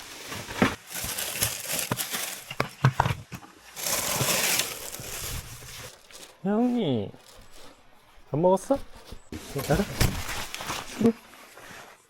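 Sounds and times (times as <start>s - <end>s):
scraping rustle: 0.0s - 12.0s.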